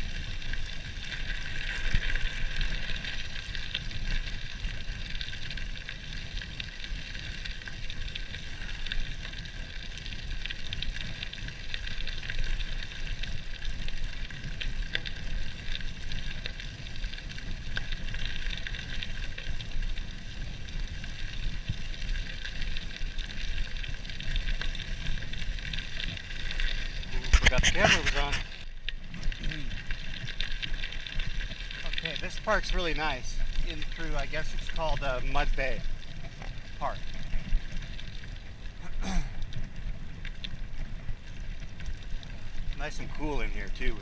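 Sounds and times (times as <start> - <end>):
bike tyres rolling over gravel: 0.0 - 44.0.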